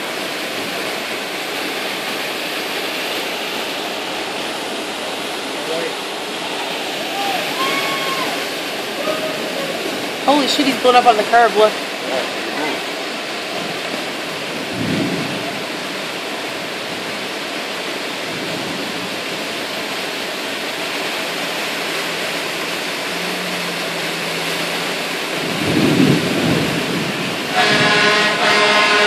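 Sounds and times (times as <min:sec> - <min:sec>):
low rumbles: 0:00.0 - 0:20.2, 0:21.6 - 0:27.8
heavy rain: 0:00.0 - 0:29.0
rushing floodwater: 0:00.0 - 0:29.0.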